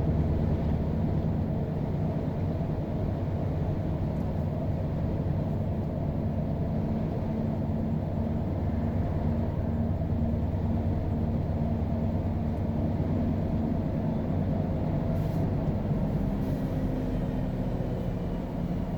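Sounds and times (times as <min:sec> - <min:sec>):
diesel truck engine droning: 0:00.0 - 0:18.9.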